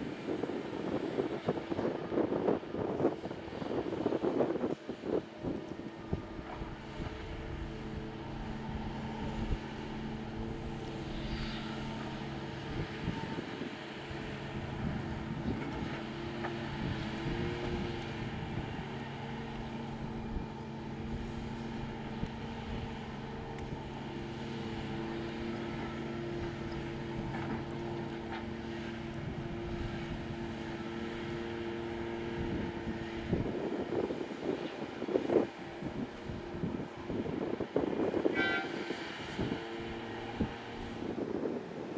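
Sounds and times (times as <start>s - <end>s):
diesel engine and hydraulics humming: 0.0s - 41.9s.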